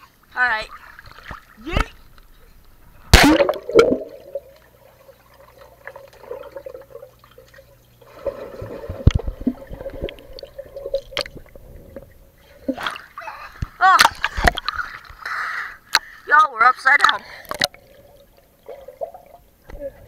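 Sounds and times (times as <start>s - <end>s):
underwater gurgling: 0.0s - 15.3s, 17.3s - 20.0s
water sloshing: 0.0s - 16.2s
faint steady hum: 0.0s - 20.0s.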